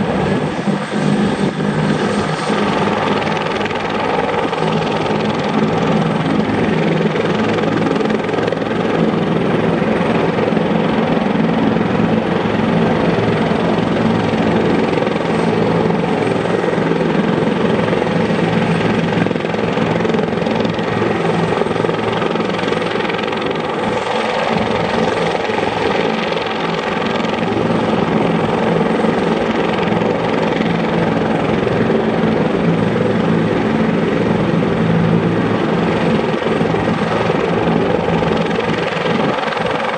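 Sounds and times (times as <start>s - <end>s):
helicopter engine whine: 0.0s - 39.9s.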